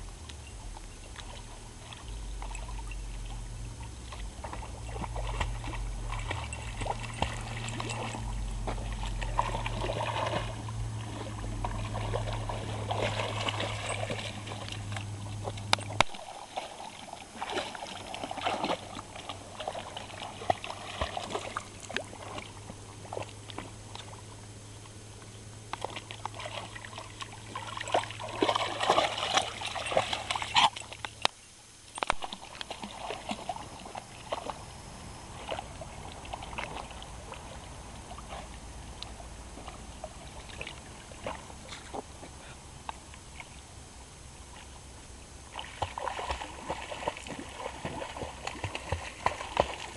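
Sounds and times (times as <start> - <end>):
low steady hum: 0.0 - 49.9
puppy splashing in water: 0.3 - 24.4, 25.6 - 31.3, 32.0 - 43.6, 45.4 - 49.9.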